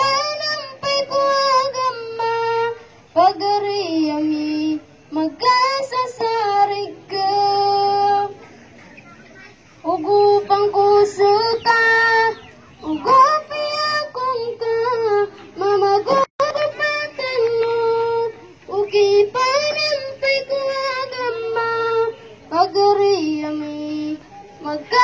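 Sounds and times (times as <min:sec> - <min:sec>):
boy singing through loudspeaker: 0:00.0 - 0:25.0.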